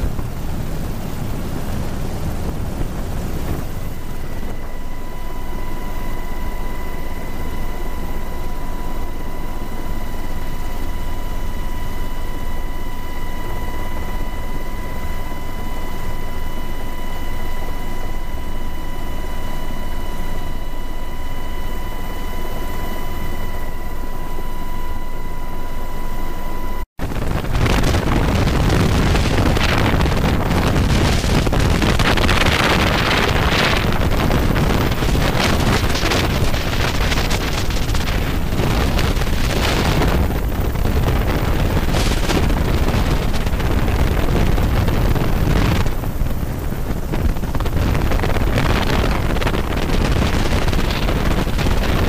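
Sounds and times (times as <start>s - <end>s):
rushing wind: 0.0s - 24.3s, 27.0s - 52.0s
helicopter rotors and engines droning: 0.0s - 52.0s
steady high whine: 0.0s - 52.0s.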